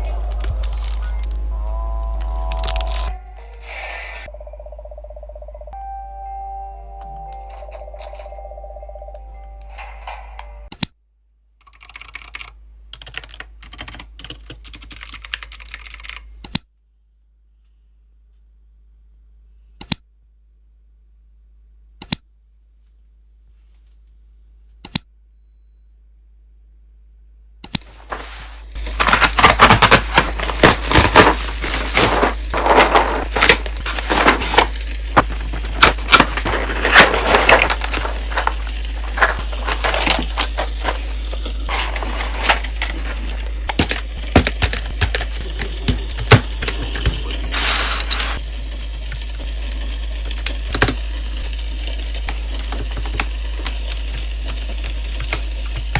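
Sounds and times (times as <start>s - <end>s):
steady low hum: 0.0s - 11.6s, 16.2s - 55.9s.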